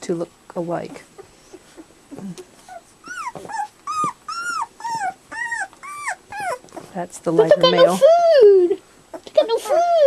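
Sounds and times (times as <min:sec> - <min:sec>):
puppies whining: 0:00.9 - 0:10.0.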